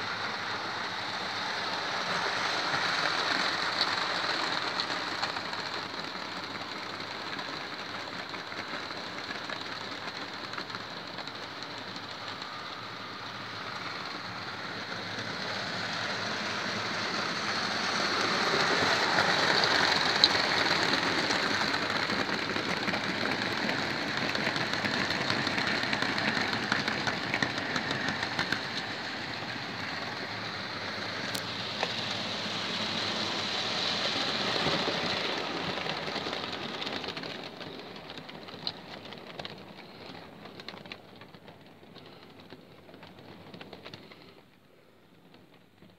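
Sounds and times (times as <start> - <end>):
model train wheels rattling on rails: 0.0 - 44.5.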